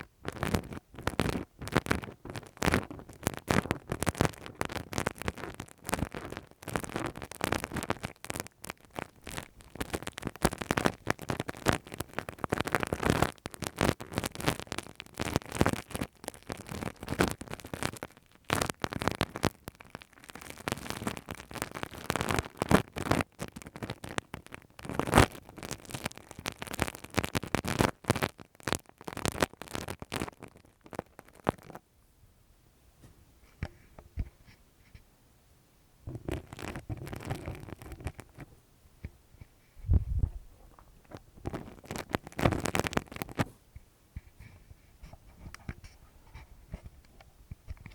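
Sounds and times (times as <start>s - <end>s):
scratching on microphone: 0.0s - 31.8s, 33.4s - 35.1s, 36.1s - 47.9s.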